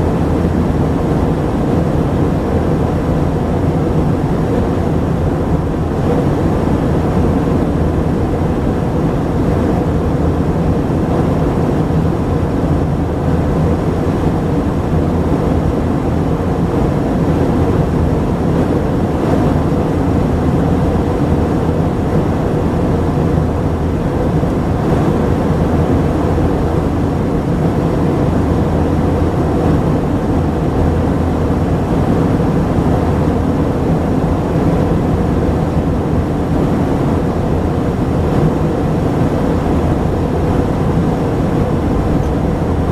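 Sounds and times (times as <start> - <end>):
faint steady hum: 0.0 - 42.9
jet engines: 0.0 - 42.9.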